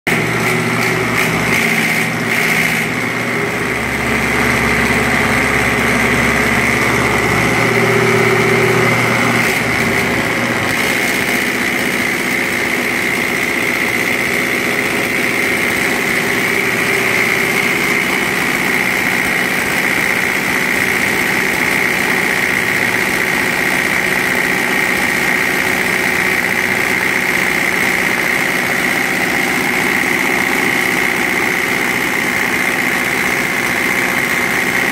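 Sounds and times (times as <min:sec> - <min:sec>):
machine drone with high hiss: 0:00.2 - 0:34.9.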